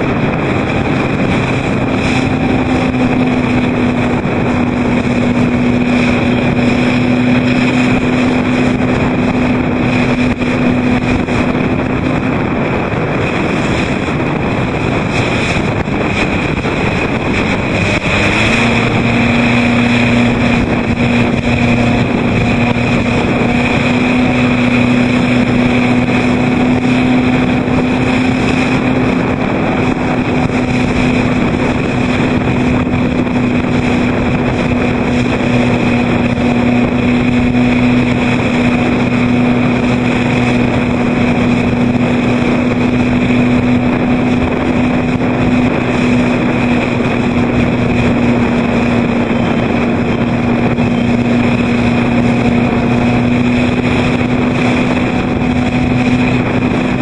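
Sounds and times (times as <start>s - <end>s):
motorboat engine humming: 0.0s - 57.0s
wind noise on microphone: 0.0s - 57.0s.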